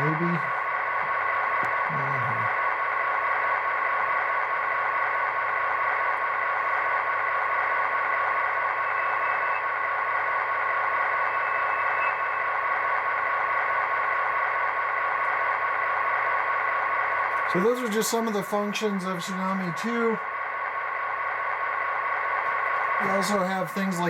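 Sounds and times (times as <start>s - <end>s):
diesel locomotive sound from small speaker: 0.0s - 24.0s.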